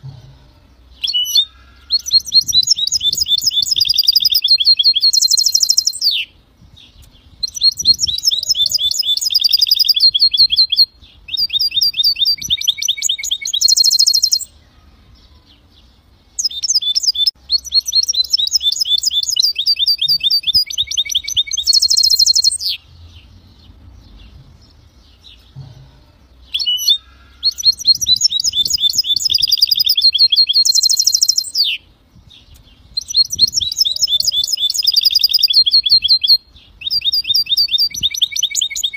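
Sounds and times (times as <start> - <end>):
bird singing trilled notes: 0.0 - 38.9.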